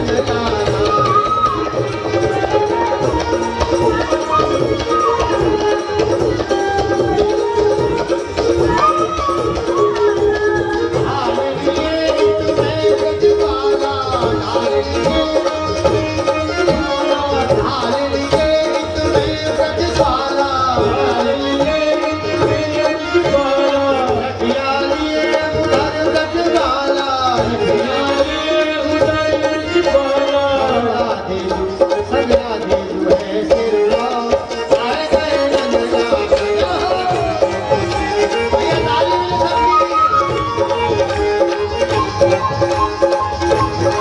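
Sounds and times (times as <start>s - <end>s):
hand drum rhythm: 0.0s - 44.0s.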